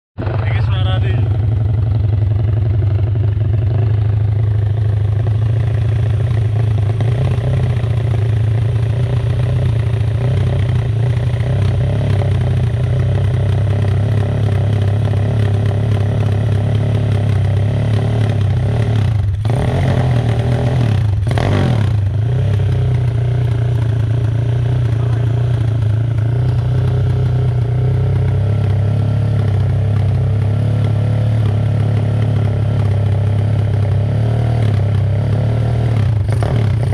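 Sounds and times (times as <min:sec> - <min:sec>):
dirt bike engine idling: 0:00.2 - 0:36.9.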